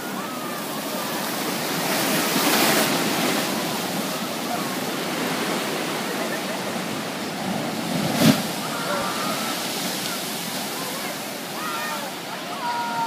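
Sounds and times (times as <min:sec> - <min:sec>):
surf breaking against seawall: 0:00.0 - 0:13.0.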